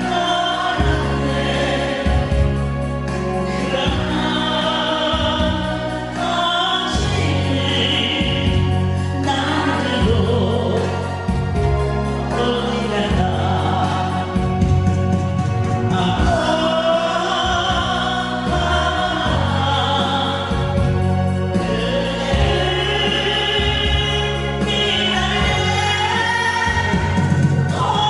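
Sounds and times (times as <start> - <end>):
group of voices singing: 0.0 - 28.0
pop backing music with steady beat: 0.0 - 28.0.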